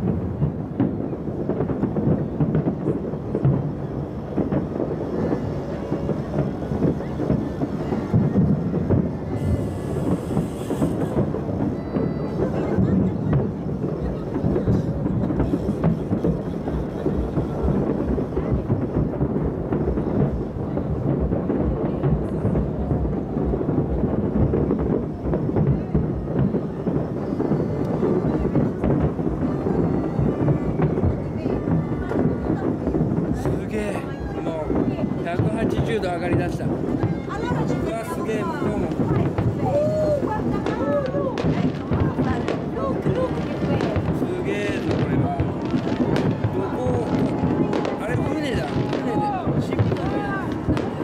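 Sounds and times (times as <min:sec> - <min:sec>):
distant fireworks rumble: 0:00.0 - 0:51.0
sharp firework pops: 0:00.0 - 0:51.0.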